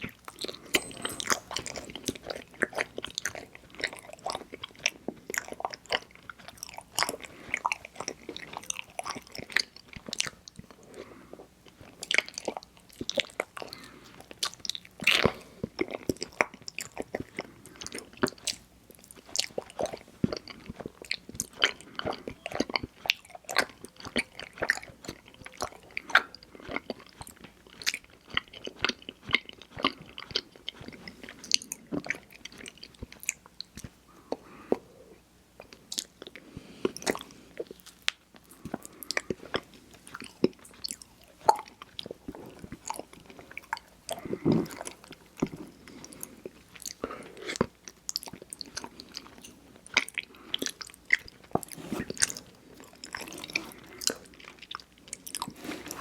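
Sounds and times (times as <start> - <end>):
wet chewing mouth sounds: 0.0 - 34.9, 35.6 - 56.0.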